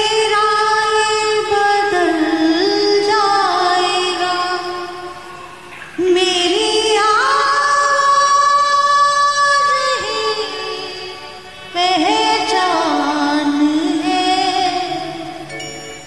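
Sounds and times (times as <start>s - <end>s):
woman singing: 0.0s - 5.4s, 6.0s - 15.5s.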